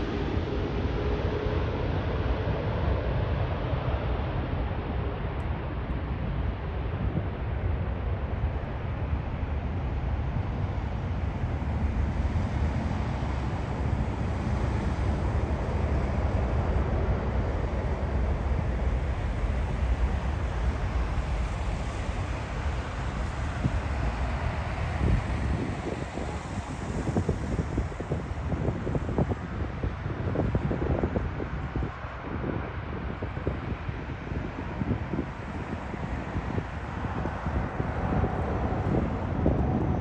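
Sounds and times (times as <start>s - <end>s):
jet engines rumbling: 0.0s - 40.0s
wind buffeting microphone: 0.0s - 40.0s.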